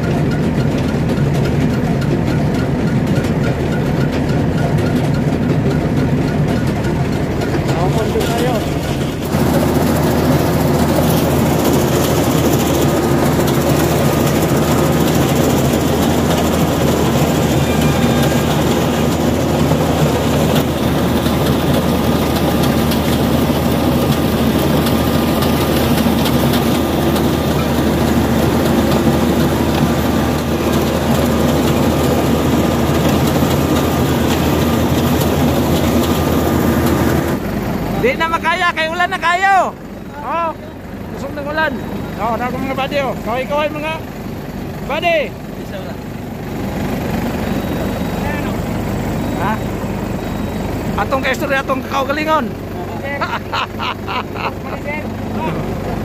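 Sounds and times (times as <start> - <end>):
combine harvester engine drone: 0.0 - 56.0
machinery clatter: 0.0 - 56.0.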